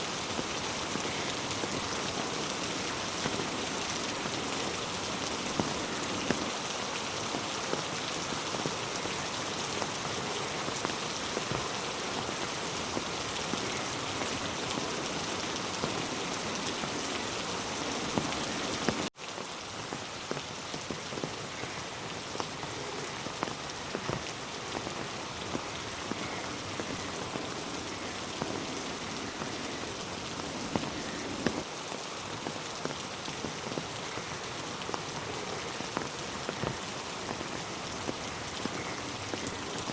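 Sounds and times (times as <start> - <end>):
steady rain with drop ticks: 0.0 - 39.9.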